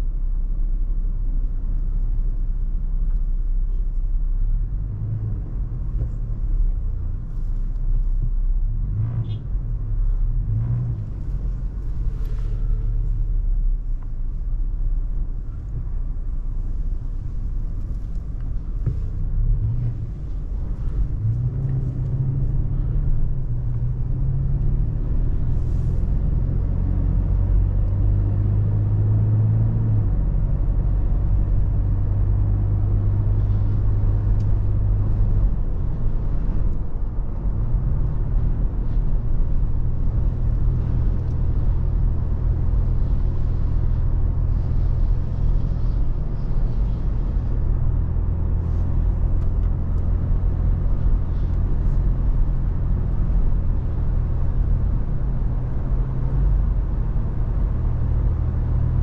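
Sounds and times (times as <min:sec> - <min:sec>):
car engine hum while driving: 0:00.0 - 0:59.0.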